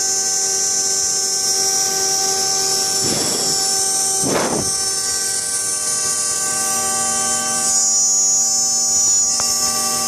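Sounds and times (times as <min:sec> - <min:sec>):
machine spindle whining: 0:00.0 - 0:10.0.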